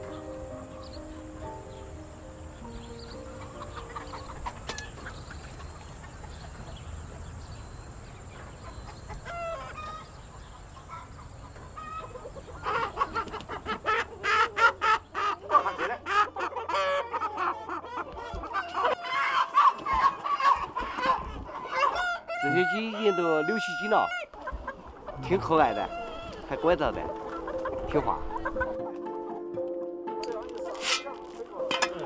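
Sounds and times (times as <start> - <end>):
chickens clucking and squawking: 0.0 - 29.2.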